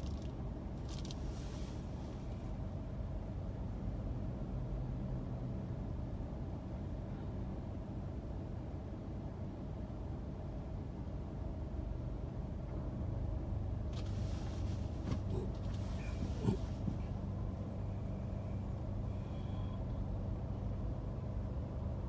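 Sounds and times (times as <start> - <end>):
idling engines hum: 0.0 - 22.0.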